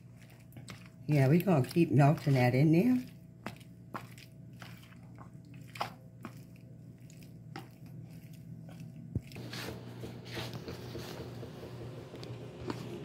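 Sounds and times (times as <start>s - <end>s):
spoon mashing macaroni squishing: 0.0s - 13.0s.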